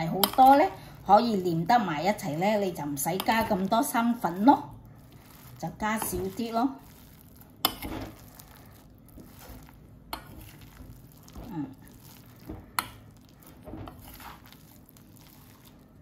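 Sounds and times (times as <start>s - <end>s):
spoon stirring thick paste: 0.0s - 16.0s.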